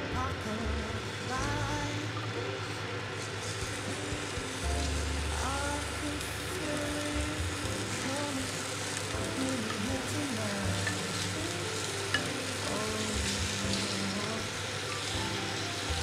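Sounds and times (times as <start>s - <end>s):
chicken sizzling in oil: 0.4s - 16.0s.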